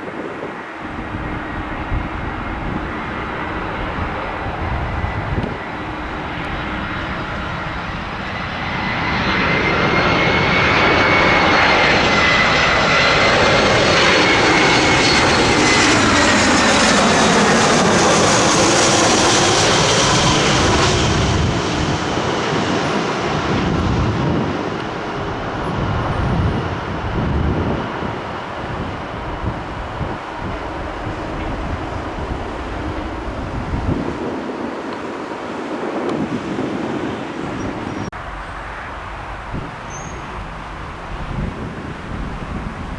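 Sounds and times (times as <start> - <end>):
airliner engines passing: 0.0 - 42.9.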